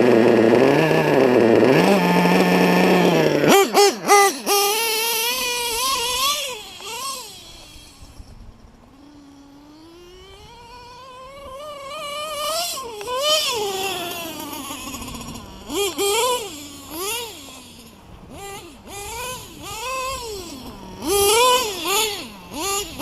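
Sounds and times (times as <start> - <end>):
high-pitched engine whine: 0.0 - 23.0
model car engine revving: 0.0 - 23.0.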